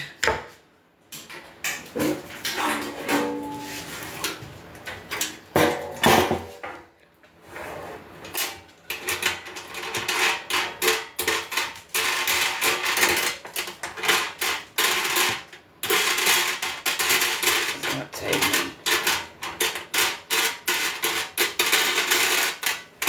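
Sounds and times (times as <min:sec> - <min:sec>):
grill parts knocking and clattering: 0:00.2 - 0:06.9, 0:08.3 - 0:23.0.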